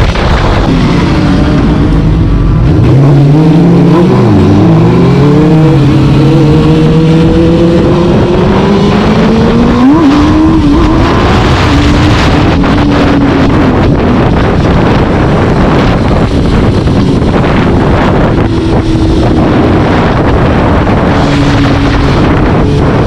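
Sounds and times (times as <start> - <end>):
vehicle engine revving: 0.0 - 23.0
wind and road noise: 0.0 - 23.0.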